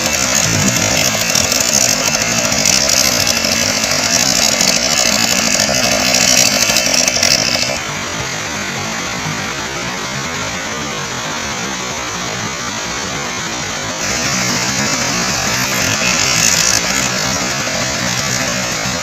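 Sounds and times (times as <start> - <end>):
motorboat engine buzzing: 0.0 - 19.0.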